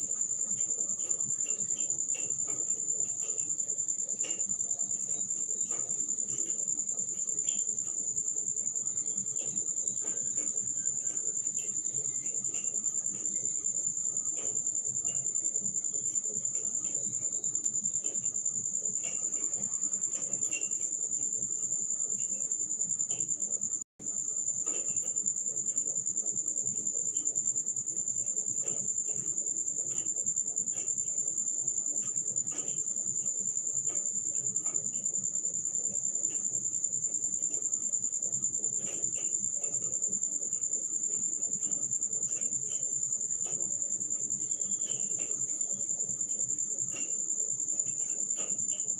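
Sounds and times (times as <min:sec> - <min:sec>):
high-pitched cricket trill: 0:00.0 - 0:48.9.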